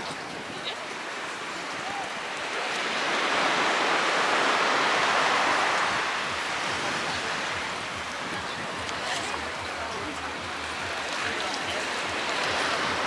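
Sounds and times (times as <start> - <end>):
ocean wave breaking: 0.8 - 13.0.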